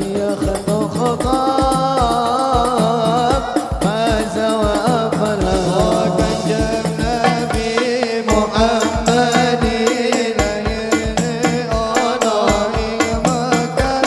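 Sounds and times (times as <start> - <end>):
frame drums and bass drums: 0.0 - 14.0
man singing over microphone: 0.0 - 14.0.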